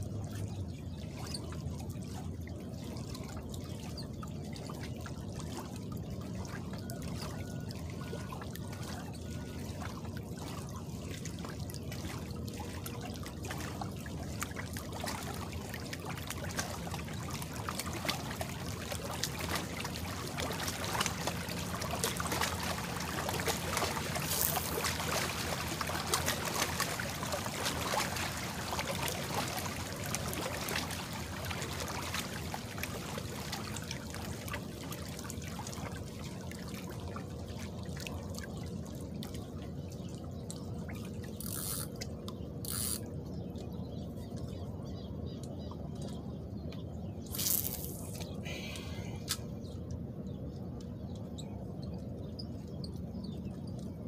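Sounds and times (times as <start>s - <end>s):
lake water trickling and lapping: 0.0s - 54.0s.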